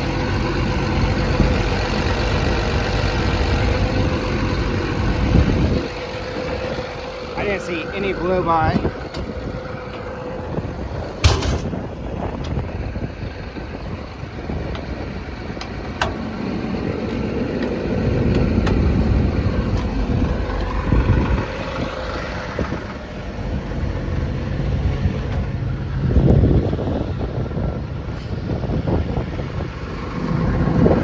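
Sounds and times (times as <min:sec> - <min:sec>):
excavator diesel engine rumbling: 0:00.0 - 0:31.0.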